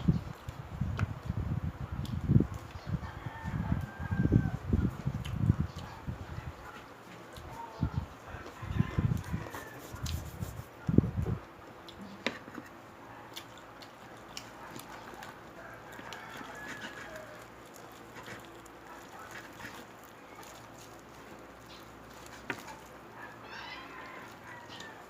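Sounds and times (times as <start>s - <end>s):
crunchy chewing: 2.0s - 11.0s, 11.7s - 25.0s.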